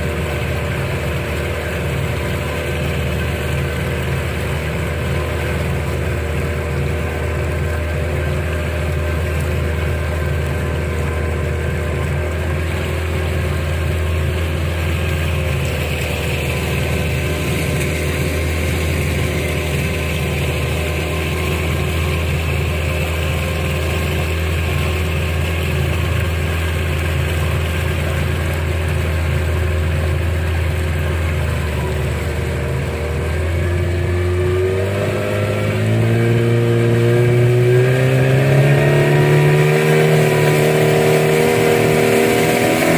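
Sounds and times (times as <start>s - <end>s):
boat motor running: 0.0s - 42.9s.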